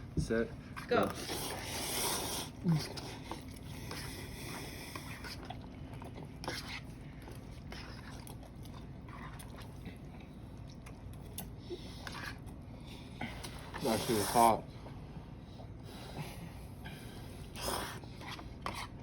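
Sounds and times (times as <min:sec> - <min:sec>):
people eating noodles: 0:00.7 - 0:19.0.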